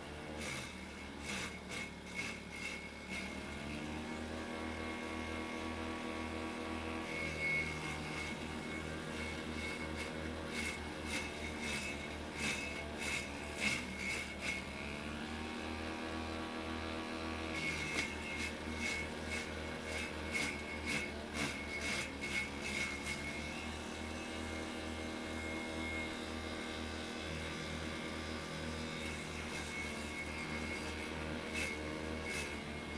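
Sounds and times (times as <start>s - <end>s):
small engine running steadily: 0.0s - 32.9s.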